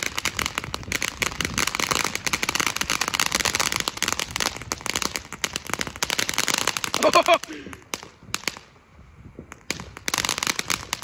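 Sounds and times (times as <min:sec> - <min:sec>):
firework fountain crackling: 0:00.0 - 0:11.0.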